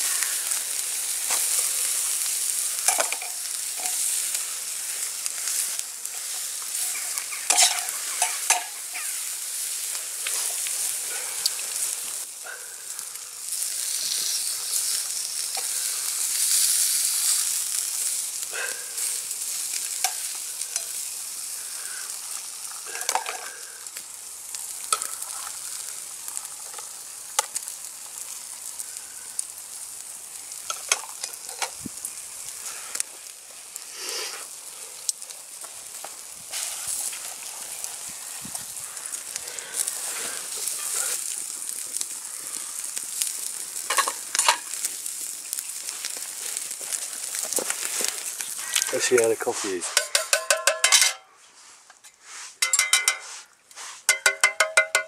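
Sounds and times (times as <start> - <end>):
bacon sizzling: 0.0 - 50.9, 51.6 - 55.0
fire pops and crackles: 0.0 - 51.1, 51.9 - 55.0.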